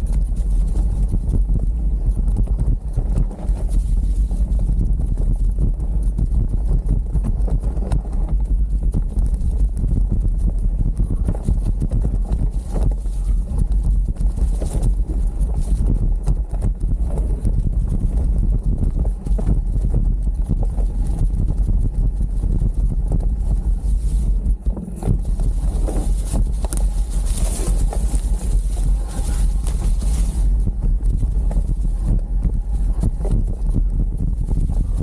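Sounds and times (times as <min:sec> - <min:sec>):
bike rattling: 0:00.0 - 0:35.0
bike tyres rumbling on dirt: 0:00.0 - 0:35.0.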